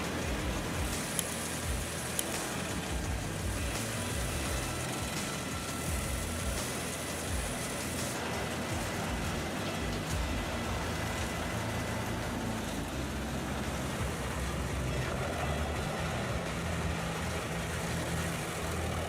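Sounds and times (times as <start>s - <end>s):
wood chipper engine drone: 0.0s - 19.0s
wood chipper rushing noise: 0.0s - 19.0s.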